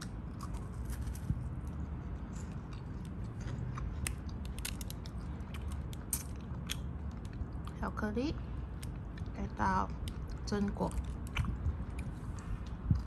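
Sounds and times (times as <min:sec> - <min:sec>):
crunching and chewing chocolate: 0:00.0 - 0:13.0.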